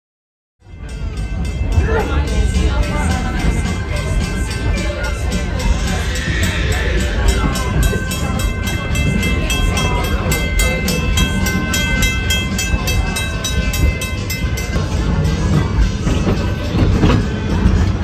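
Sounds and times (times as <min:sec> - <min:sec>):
railroad crossing bell ringing: 0:00.6 - 0:18.0
train rumbling past: 0:00.6 - 0:18.0.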